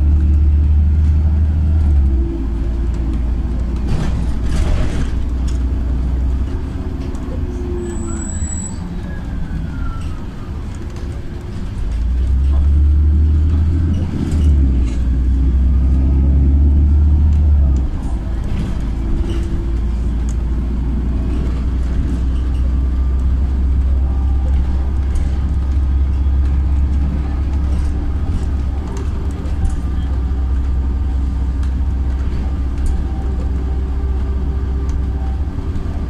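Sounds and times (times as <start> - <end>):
bus engine drone: 0.0 - 36.0
road noise: 0.0 - 36.0.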